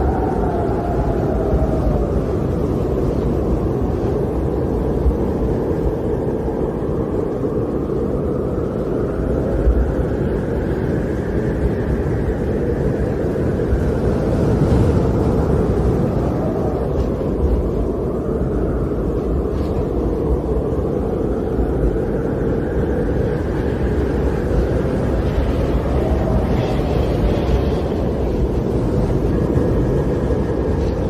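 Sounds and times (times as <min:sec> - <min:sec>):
faint wind whistling: 0:00.0 - 0:31.0
wind blowing in deep rumble: 0:00.0 - 0:31.0.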